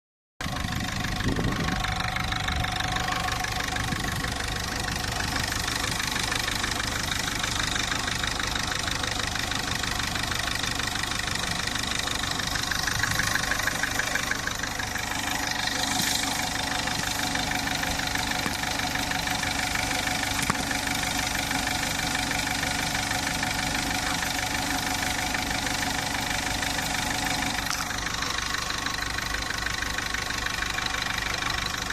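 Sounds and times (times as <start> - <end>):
engine idling with ticking: 0.4 - 31.9.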